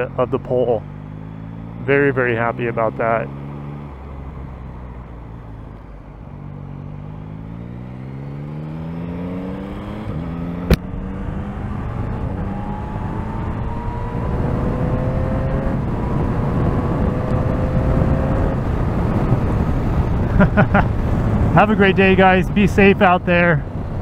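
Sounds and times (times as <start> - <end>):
motorcycle engine accelerating: 0.0 - 24.0
wind and road rumble: 0.0 - 24.0.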